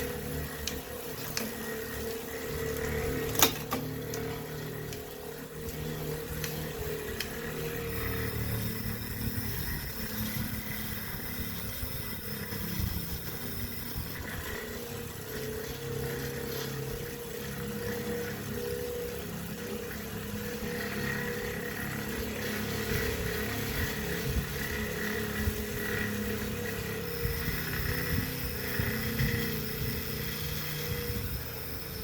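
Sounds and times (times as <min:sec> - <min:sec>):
bike trainer rumbling hum: 0:00.0 - 0:32.0.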